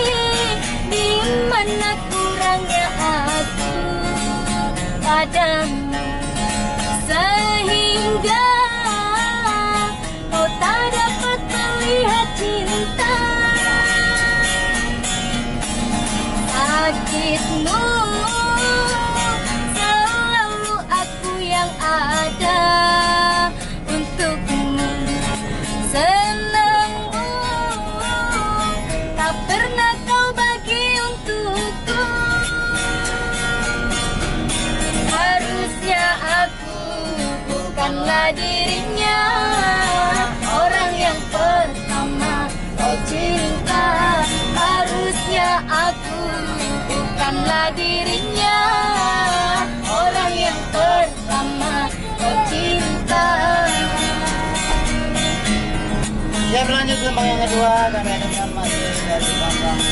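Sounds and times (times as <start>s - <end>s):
woman singing: 0.0s - 6.2s, 6.9s - 15.0s, 16.4s - 34.0s, 35.0s - 55.2s
strummed acoustic guitar: 0.0s - 59.9s.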